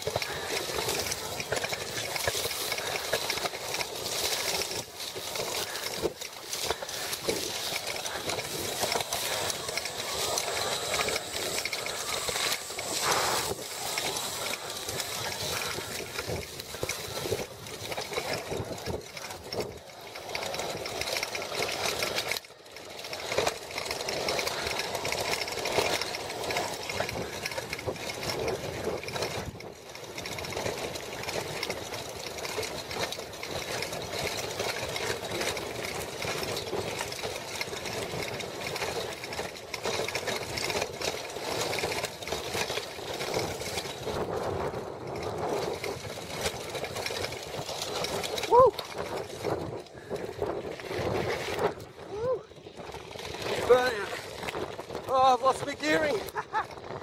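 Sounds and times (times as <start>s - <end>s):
bike rattling over rough trail: 0.0s - 57.0s.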